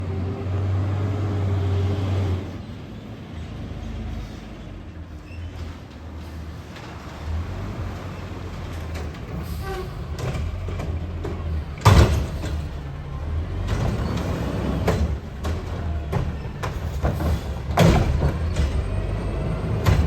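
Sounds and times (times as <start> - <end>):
garbage truck engine running: 2.5 - 20.0.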